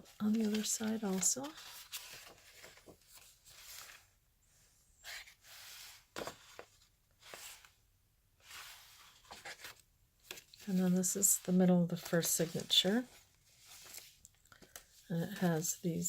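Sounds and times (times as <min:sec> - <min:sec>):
paper pages rustling: 0:00.0 - 0:04.1, 0:05.0 - 0:07.8, 0:08.4 - 0:15.8.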